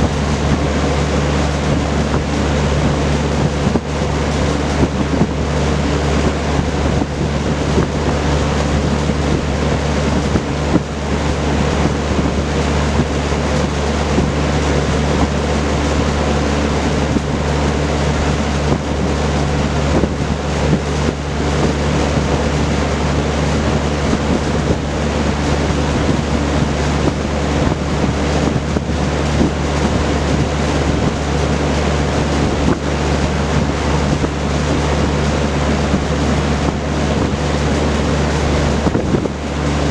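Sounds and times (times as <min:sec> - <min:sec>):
box fan running: 0:00.0 - 0:39.9.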